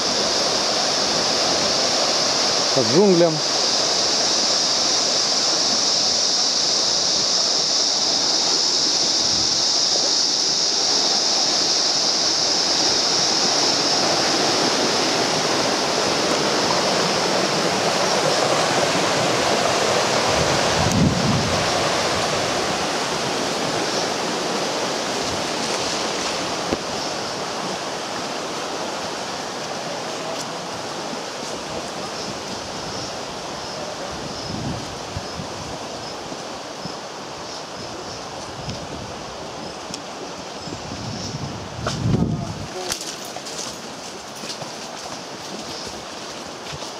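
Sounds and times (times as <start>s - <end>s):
water rushing over rocks: 0.0s - 46.9s.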